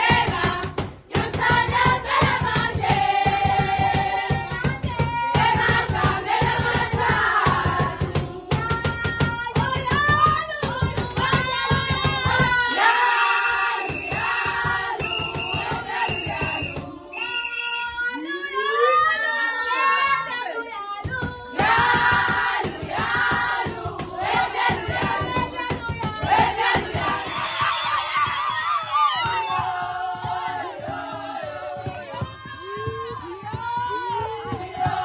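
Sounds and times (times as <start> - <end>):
rhythmic clapping: 0.0 - 17.1, 21.0 - 35.0
women singing together: 0.0 - 35.0.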